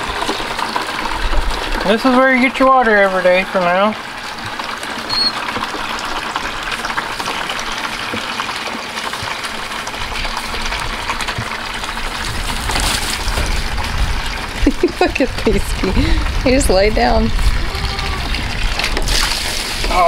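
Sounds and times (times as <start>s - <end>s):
water running into container: 0.0s - 20.0s.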